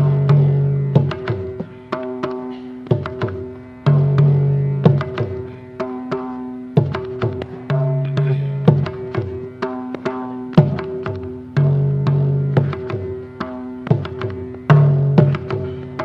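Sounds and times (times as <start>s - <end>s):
hand drum ringing strokes: 0.0s - 16.0s.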